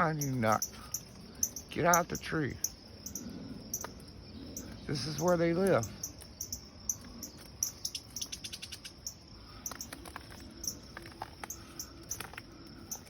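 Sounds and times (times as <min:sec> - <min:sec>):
bird chirps: 0:00.0 - 0:13.0
insects chirping: 0:00.0 - 0:13.0.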